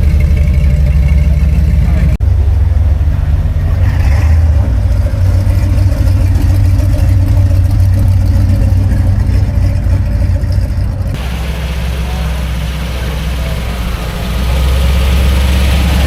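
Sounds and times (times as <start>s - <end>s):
vehicle engine deep rumble: 0.0s - 16.0s.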